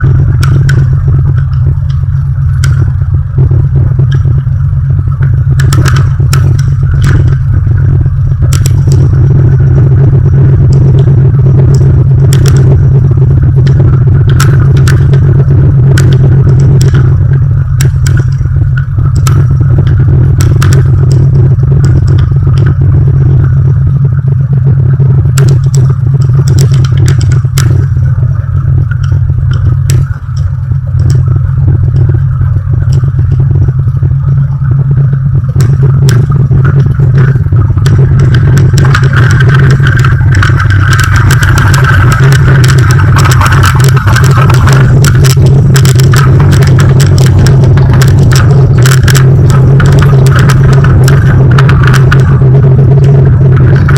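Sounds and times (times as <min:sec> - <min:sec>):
sharp clicks and rattles: 0:00.0 - 0:53.9.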